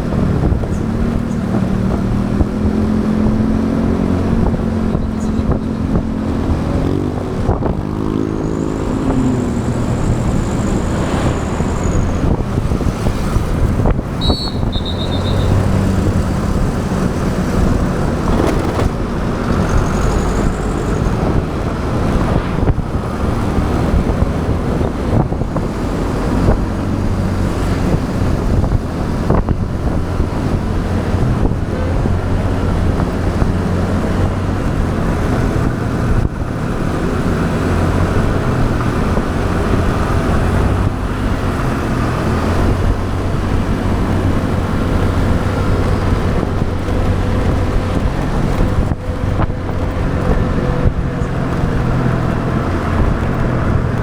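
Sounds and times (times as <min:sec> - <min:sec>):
motorbike engine running: 0:00.0 - 0:54.0
wind rushing over microphone: 0:00.0 - 0:54.0.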